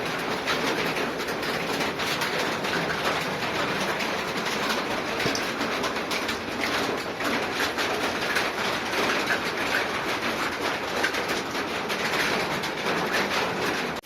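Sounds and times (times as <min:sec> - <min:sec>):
rain patter: 0:00.0 - 0:14.0
running rainwater trickling: 0:00.0 - 0:14.0.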